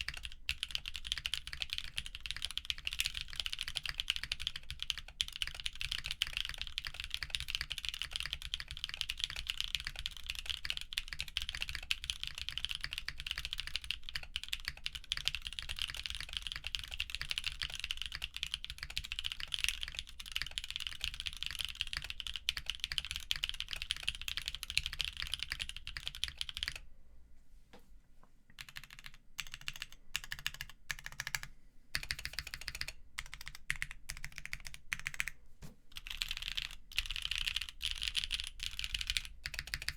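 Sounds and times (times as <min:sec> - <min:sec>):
mechanical keyboard typing: 0:00.0 - 0:26.8, 0:28.6 - 0:39.9.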